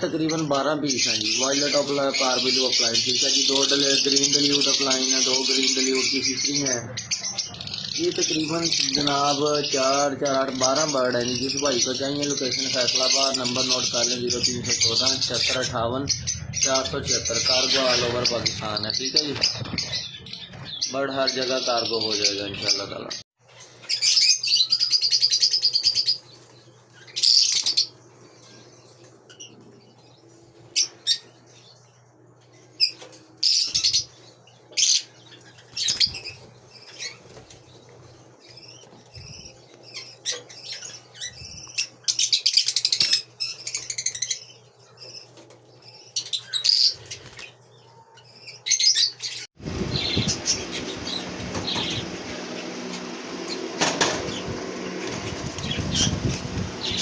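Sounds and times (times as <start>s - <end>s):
lovebirds chirping shrilly: 0.0s - 57.0s.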